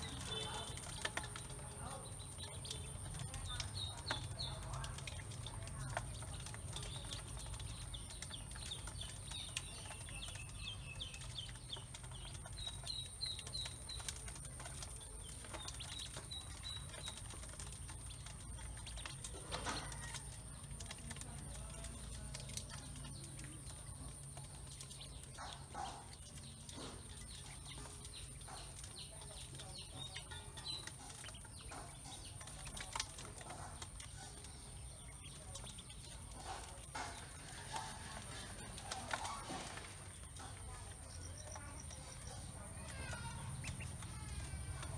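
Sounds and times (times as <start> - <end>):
bills tapping metal basin: 0.0 - 44.9
ducklings peeping: 0.0 - 44.9.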